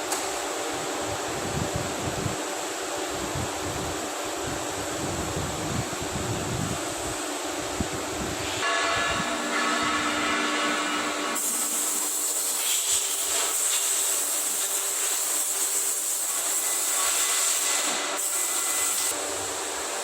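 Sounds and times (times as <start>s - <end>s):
machine humming with hiss: 0.0s - 20.0s.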